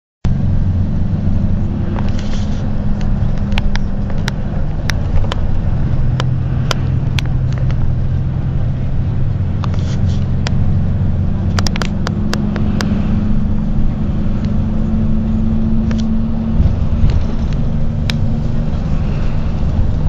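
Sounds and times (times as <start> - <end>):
low engine hum: 0.2 - 20.0.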